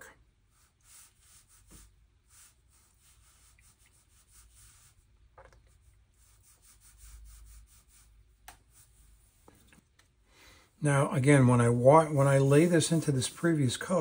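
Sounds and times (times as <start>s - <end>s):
brush swishing on paper: 0.4s - 9.9s, 11.3s - 14.0s.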